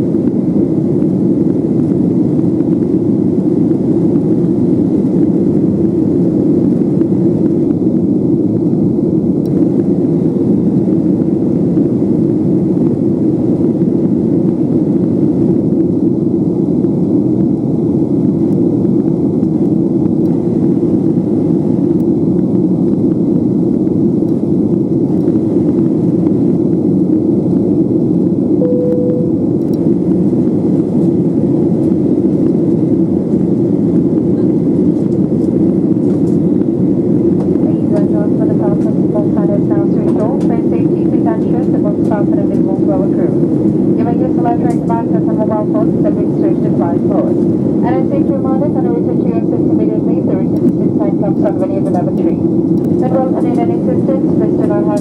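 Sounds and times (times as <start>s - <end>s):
airplane cabin airflow rush: 0.0s - 55.0s
jet engines through fuselage: 0.0s - 55.0s.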